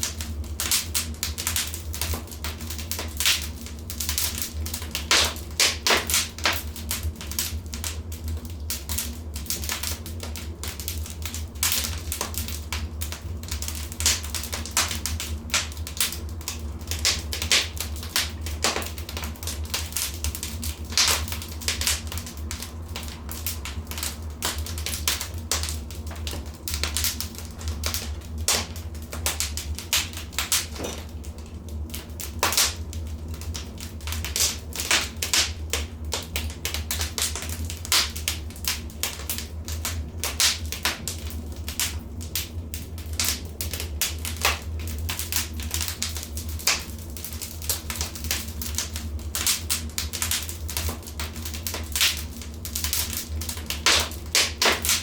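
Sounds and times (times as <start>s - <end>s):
steady low hum: 0.0s - 55.0s
wood fire crackling: 0.0s - 55.0s.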